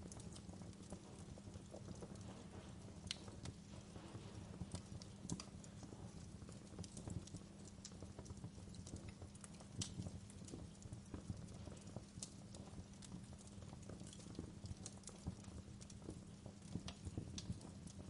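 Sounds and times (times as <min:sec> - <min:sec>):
flames rumbling: 0:00.0 - 0:18.0
wood fire crackling and popping: 0:00.0 - 0:18.0.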